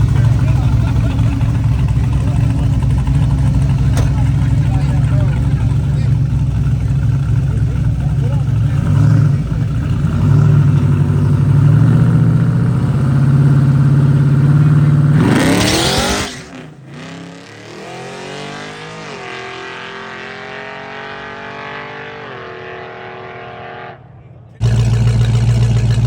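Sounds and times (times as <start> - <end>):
drag car engine revving and accelerating: 0.0 - 24.0, 24.6 - 26.0.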